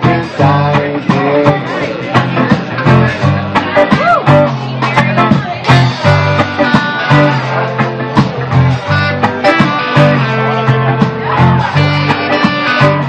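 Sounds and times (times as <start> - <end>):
drums keeping a beat: 0.0 - 13.0
guitars: 0.0 - 13.0.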